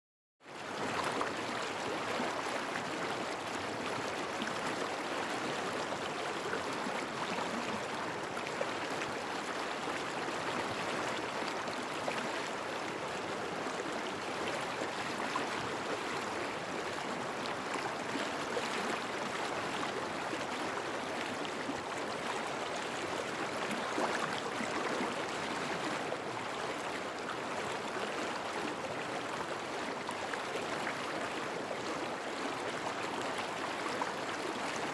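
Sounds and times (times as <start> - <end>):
river water babbling: 0.5 - 34.9.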